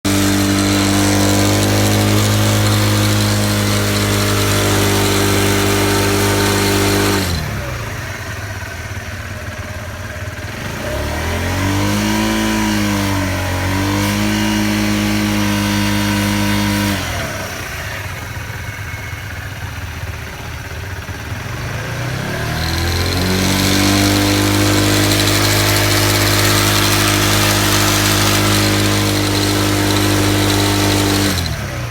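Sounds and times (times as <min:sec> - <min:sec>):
motorcycle engine revving and idling: 0:00.0 - 0:31.9.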